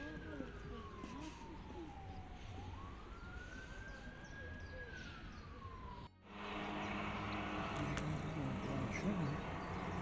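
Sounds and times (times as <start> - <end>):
wailing siren: 0.0 - 10.0.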